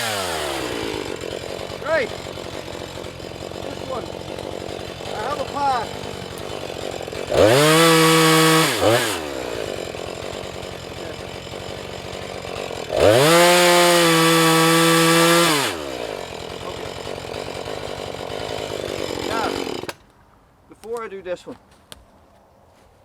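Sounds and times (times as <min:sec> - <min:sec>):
chainsaw cutting log: 0:00.0 - 0:20.1
chainsaw idling and revving: 0:00.0 - 0:20.1.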